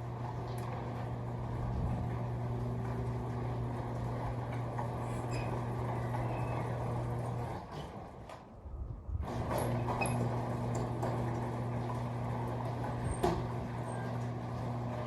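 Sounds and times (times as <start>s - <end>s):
garage door motor and chain humming: 0.0s - 8.6s, 9.2s - 15.0s.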